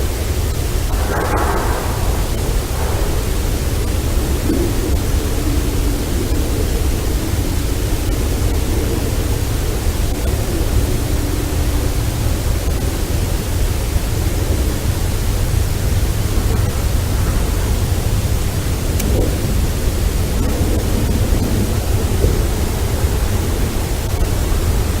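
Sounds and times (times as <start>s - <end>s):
faint humming tones: 0.0s - 25.0s
hiss with low rumble: 0.0s - 25.0s.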